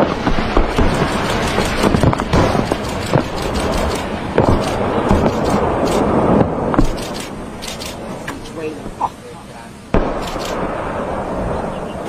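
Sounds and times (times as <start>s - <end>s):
continuous rumble: 0.0s - 12.0s
distant explosions: 0.0s - 12.0s.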